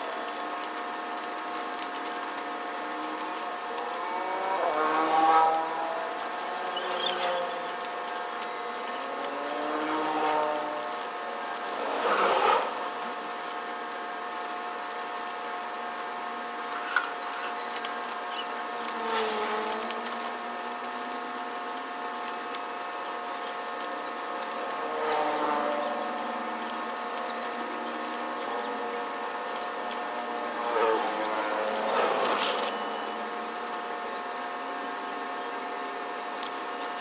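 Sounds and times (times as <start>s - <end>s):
plastic film peeling rustle: 0.0s - 37.0s.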